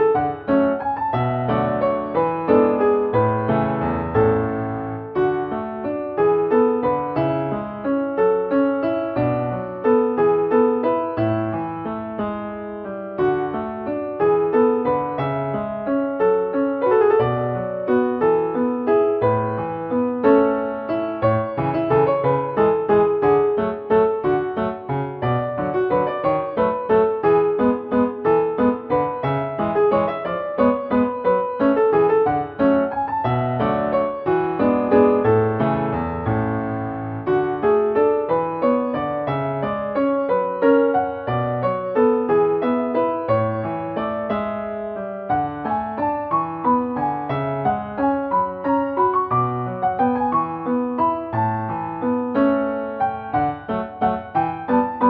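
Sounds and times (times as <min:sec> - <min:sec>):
gentle piano waltz: 0:00.0 - 0:55.0.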